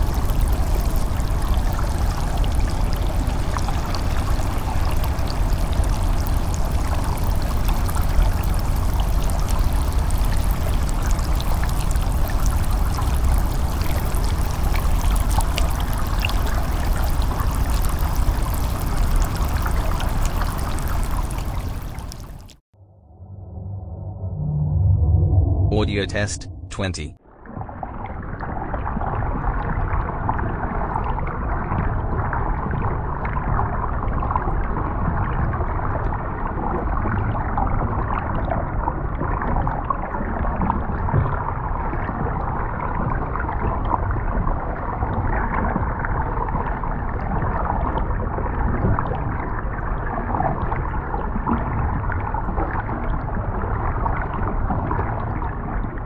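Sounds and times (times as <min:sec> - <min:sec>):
underwater water noise: 0:00.0 - 0:26.3, 0:27.2 - 0:56.0.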